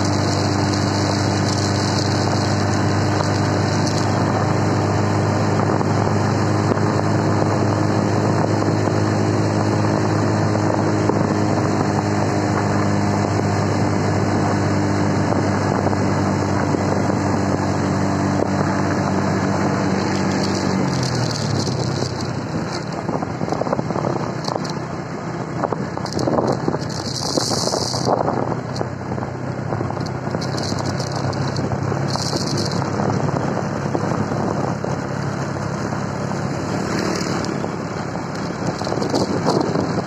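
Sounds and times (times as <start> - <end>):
motorbike engine running: 0.0 - 40.0
wind rushing over microphone: 0.0 - 40.0.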